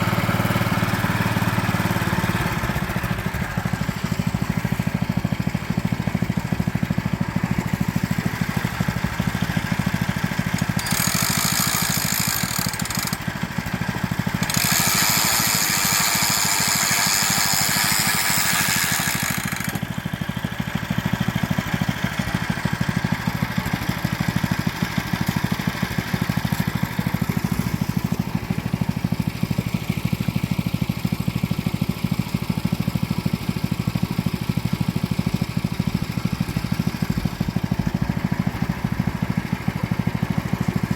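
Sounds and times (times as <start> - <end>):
small engine running steadily: 0.0 - 40.9.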